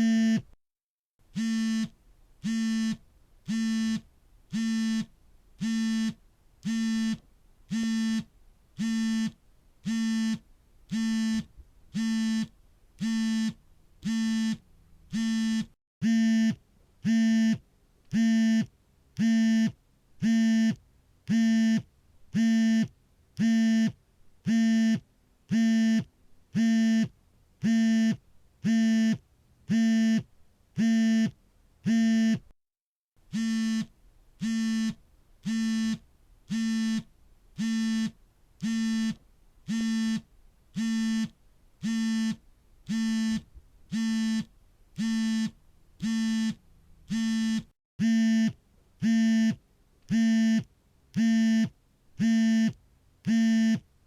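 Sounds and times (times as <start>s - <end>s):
smartphone vibrating buzz: 0.0s - 0.5s, 1.3s - 32.5s, 33.3s - 53.9s.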